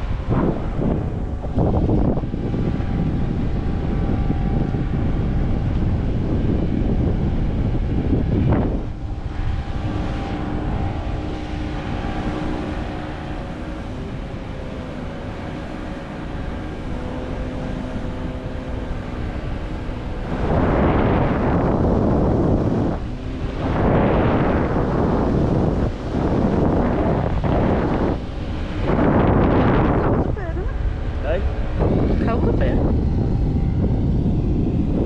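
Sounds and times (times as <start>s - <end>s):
steady multi-tone drone: 0.0s - 35.0s
wind rushing over microphone: 0.0s - 35.0s.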